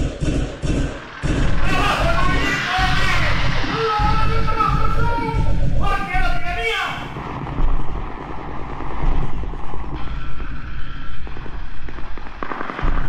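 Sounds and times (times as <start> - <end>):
loud low rumble: 0.0 - 12.3
dense crackling and popping: 0.0 - 13.0.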